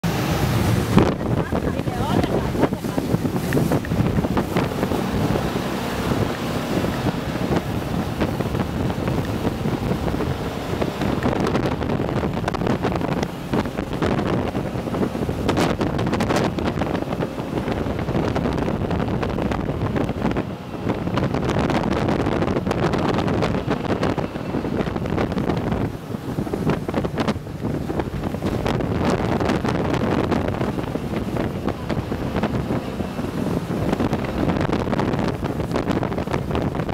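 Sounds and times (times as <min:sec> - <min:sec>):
jet boat engine running: 0:00.0 - 0:36.9
wind buffeting on microphone: 0:00.0 - 0:36.9.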